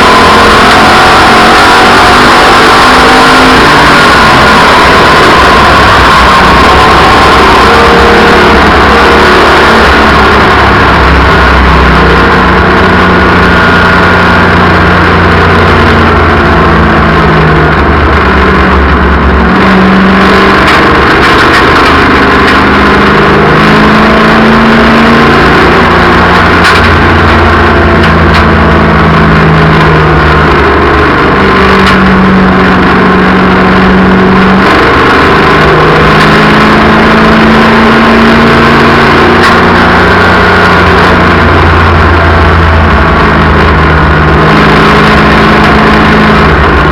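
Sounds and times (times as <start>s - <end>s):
race car engines: 0.0s - 46.9s.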